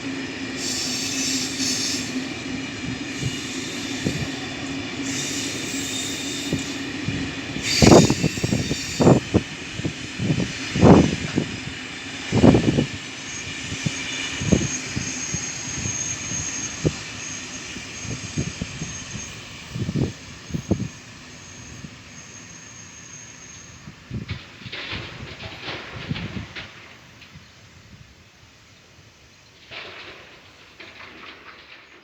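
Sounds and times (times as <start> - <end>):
train rolling hum: 0.0 - 32.0.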